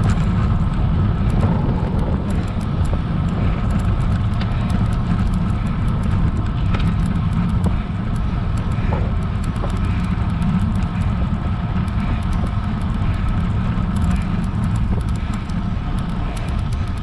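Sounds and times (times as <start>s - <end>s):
road rumble: 0.0s - 17.0s
wind: 0.0s - 17.0s
faint high ticks: 1.2s - 17.0s.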